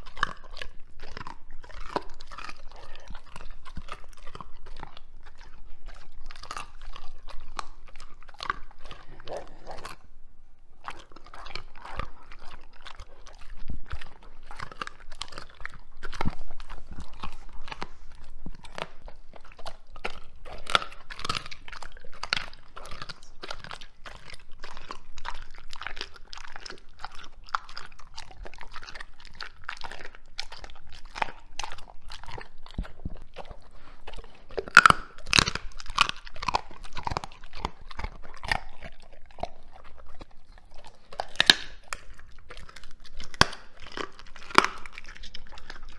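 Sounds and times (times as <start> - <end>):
dog chewing and crunching bones: 0.0 - 45.9.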